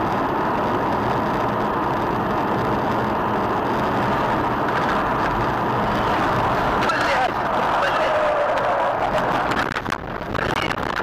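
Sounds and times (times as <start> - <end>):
engine and road noise: 0.0 - 11.0.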